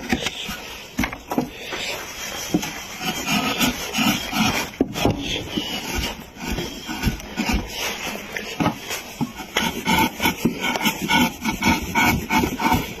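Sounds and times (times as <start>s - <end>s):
hand tool rasping on wood: 0.0s - 13.0s.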